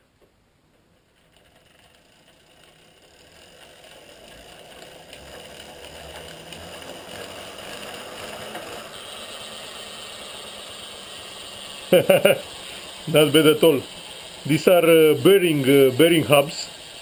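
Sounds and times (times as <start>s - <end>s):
bicycle wheel spinning: 0.6s - 17.0s.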